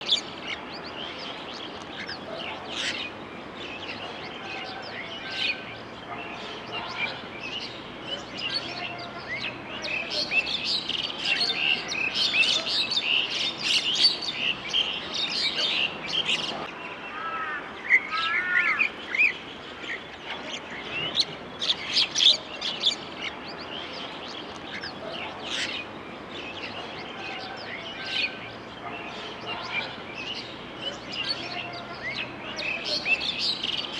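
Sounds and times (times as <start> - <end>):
small birds chirping: 0.0 - 17.2, 17.8 - 33.9
lower curving bird calls: 0.0 - 33.9.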